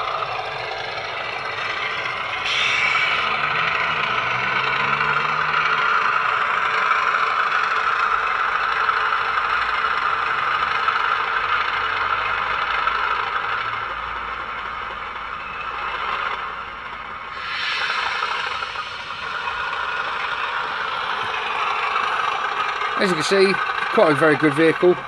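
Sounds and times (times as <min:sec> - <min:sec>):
diesel engine sound from speaker: 0:00.0 - 0:25.0
model train rattling: 0:00.0 - 0:25.0.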